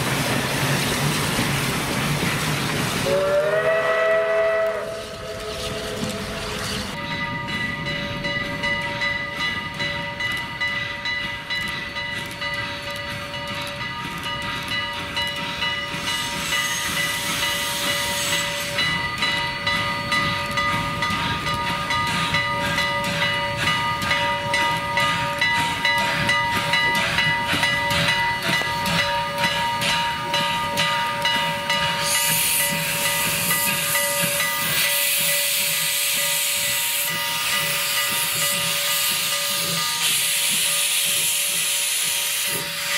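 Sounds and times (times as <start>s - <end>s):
steam hissing: 0.0s - 5.4s, 12.2s - 42.9s
low train rumble: 0.0s - 42.9s
locomotive bell ringing: 6.3s - 41.8s.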